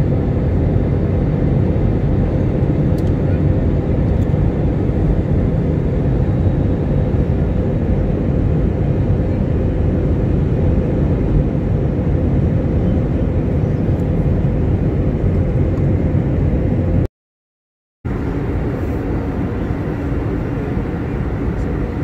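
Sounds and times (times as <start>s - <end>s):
jet engine and airflow rush: 0.0s - 17.1s, 18.1s - 22.0s.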